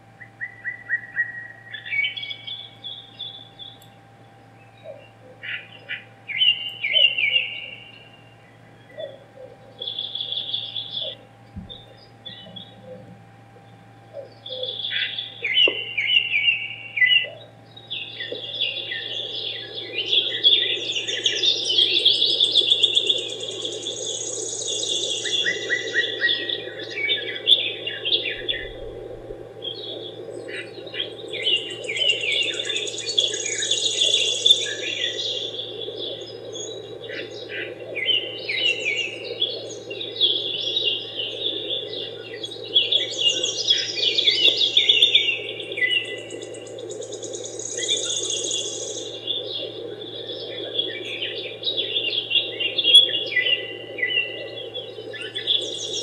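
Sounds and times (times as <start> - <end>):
steady low hum: 0.0 - 56.0
birds chirping and singing: 0.2 - 56.0.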